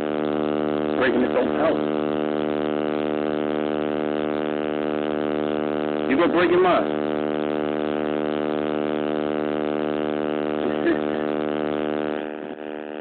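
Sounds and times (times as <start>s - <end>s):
loud electrical buzz: 0.0s - 13.0s.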